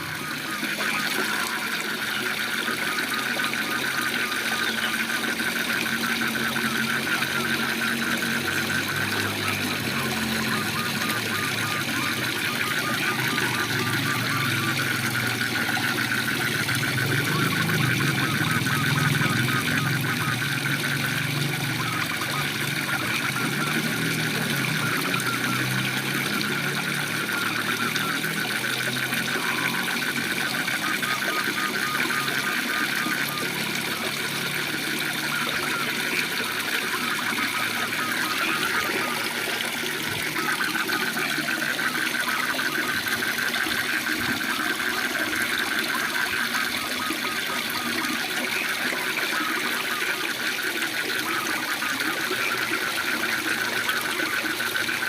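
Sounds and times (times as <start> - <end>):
frogs trilling: 0.0 - 55.0.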